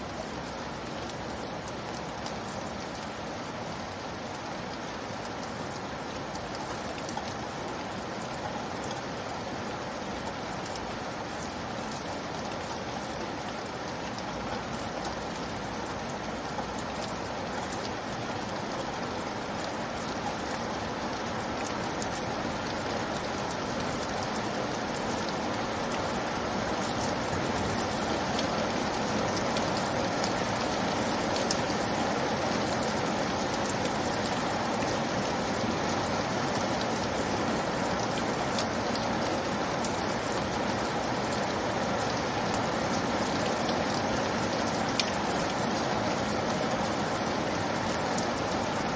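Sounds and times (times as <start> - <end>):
steady rain: 0.0 - 48.9
raindrop ticks: 0.1 - 48.9.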